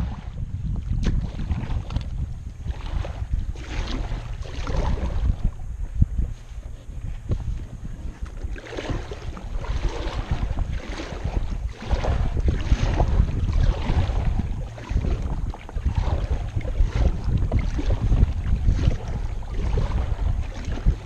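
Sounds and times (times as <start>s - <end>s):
water splashing against kayak: 0.0s - 21.0s
wind buffeting microphone: 0.0s - 21.0s.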